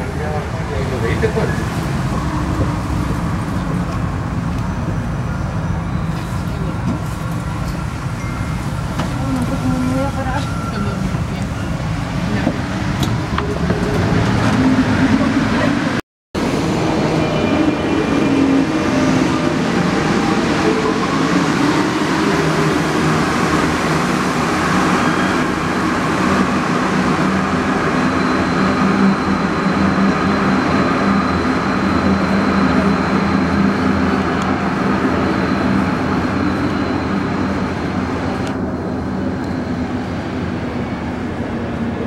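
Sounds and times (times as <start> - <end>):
metro train pulling away: 0.0 - 42.0.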